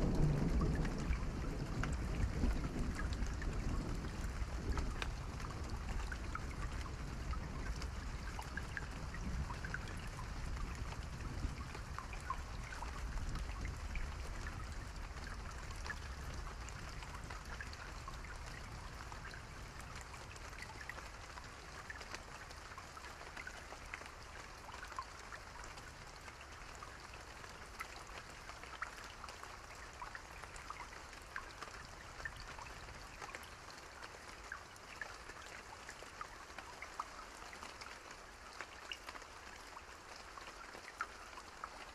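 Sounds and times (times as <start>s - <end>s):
soft rain: 0.0s - 41.9s.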